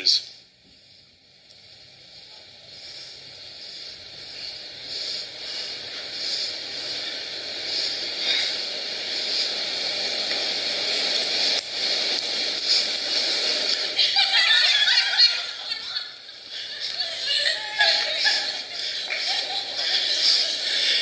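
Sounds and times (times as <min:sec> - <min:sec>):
hissing suspense build-up: 0:01.4 - 0:21.0.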